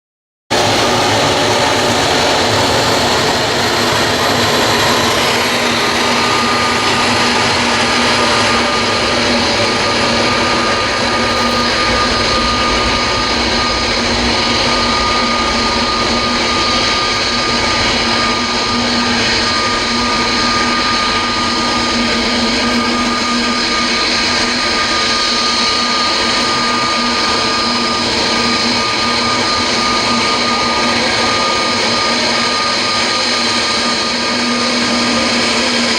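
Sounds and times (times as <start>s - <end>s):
jet engines roaring with whine: 0.5s - 35.9s.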